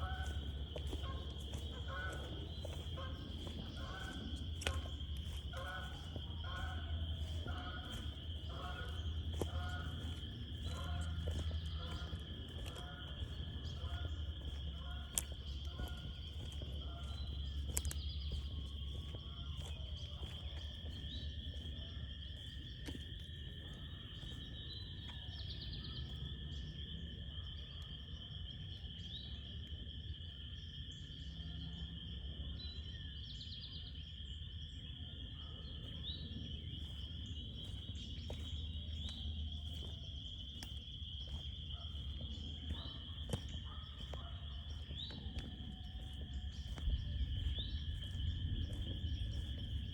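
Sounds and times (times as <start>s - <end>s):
frogs trilling: 0.0s - 49.9s.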